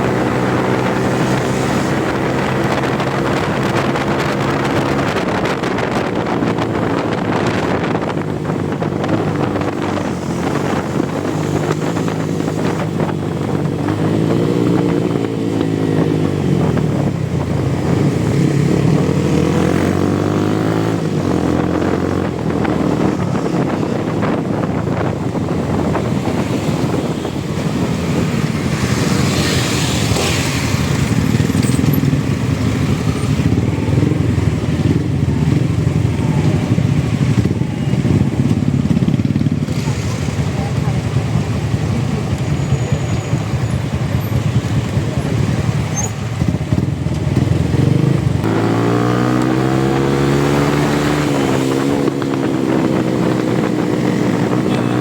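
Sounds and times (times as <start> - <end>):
loud motorcycle engine revving: 0.0 - 55.0.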